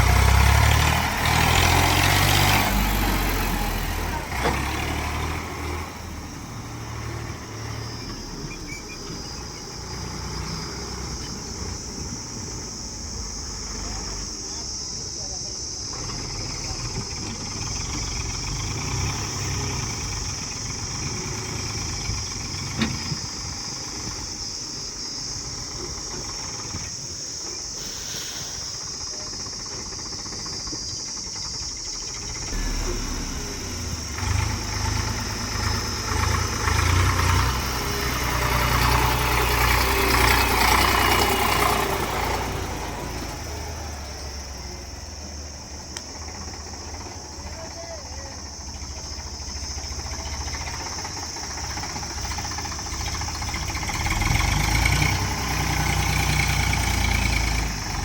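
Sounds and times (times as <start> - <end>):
heavy machine engine rumbling: 0.0 - 58.0.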